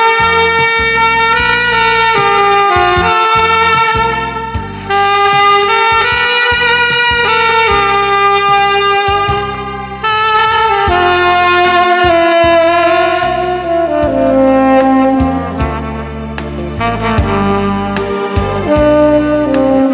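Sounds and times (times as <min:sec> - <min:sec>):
backing accompaniment: 0:00.0 - 0:19.9
saxophone playing slow melody: 0:00.0 - 0:19.9.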